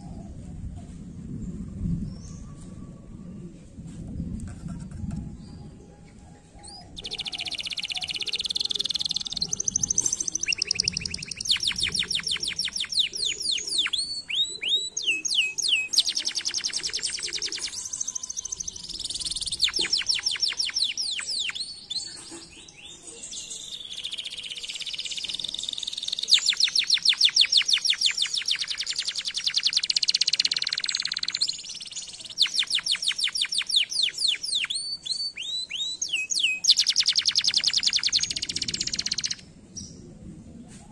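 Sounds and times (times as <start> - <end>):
canary singing trills: 6.6 - 39.9.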